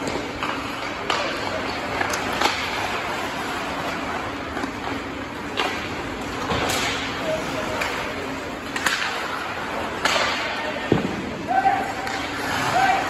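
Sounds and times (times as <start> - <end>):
sticks striking puck: 0.0 - 3.1, 4.5 - 13.0.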